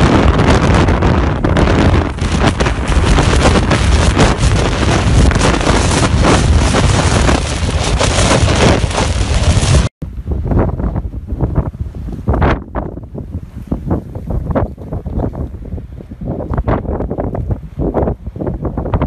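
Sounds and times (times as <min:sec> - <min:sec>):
wind blasting microphone: 0:00.0 - 0:19.0.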